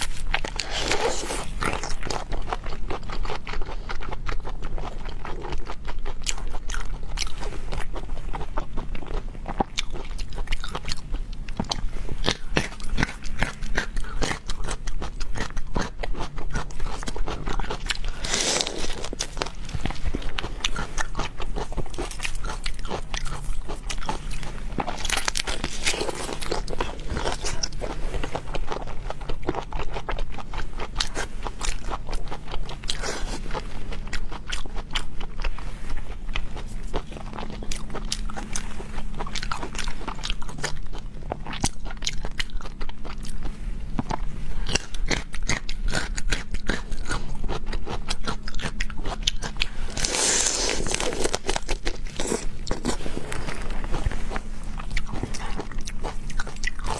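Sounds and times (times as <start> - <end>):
crunching and chewing: 0.0 - 56.9.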